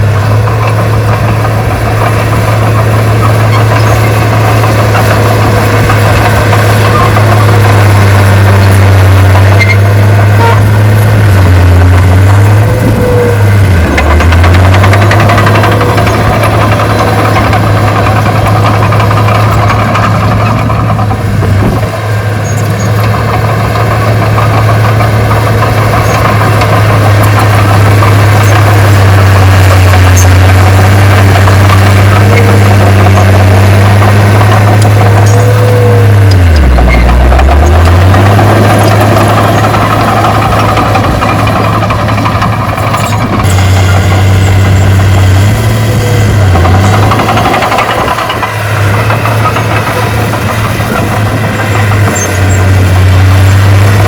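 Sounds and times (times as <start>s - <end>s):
loud diesel engine running: 0.0s - 54.0s.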